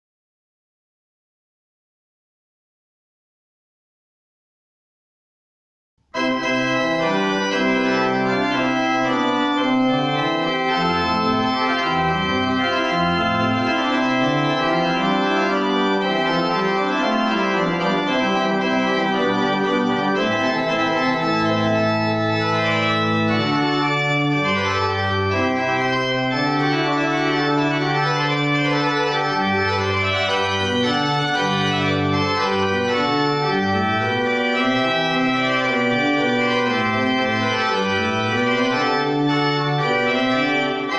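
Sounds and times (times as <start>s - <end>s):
church pipe organ chords: 6.1s - 40.9s.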